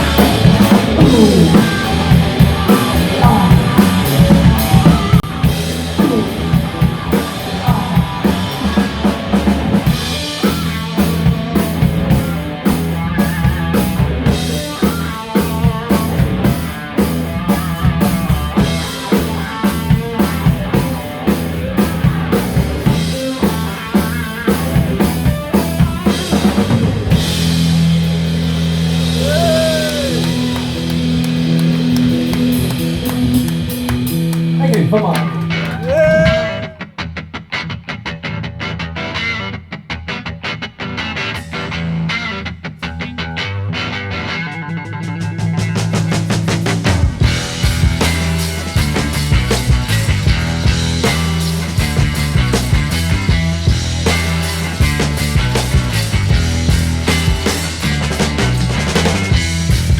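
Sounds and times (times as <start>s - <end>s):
rock music with drums and guitar: 0.0s - 59.9s.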